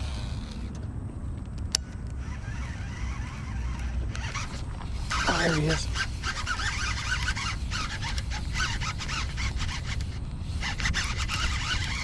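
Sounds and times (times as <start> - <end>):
fishing reel clicking: 1.7 - 12.0.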